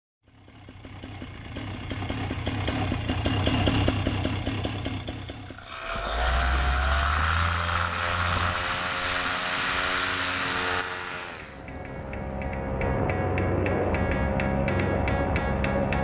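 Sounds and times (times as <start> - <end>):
paramotor engine running: 0.3 - 16.0
propeller noise: 0.3 - 16.0.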